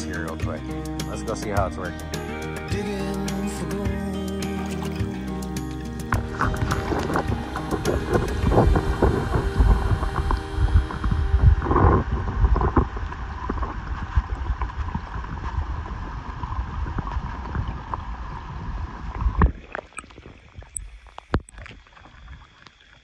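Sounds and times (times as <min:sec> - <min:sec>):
water trickling: 0:00.2 - 0:23.0
muffled underwater water rumbling: 0:03.8 - 0:23.0.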